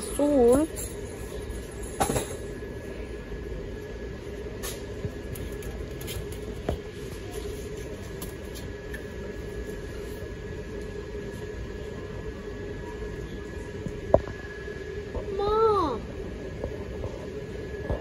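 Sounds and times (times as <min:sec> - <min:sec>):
store background hum: 0:00.0 - 0:18.0.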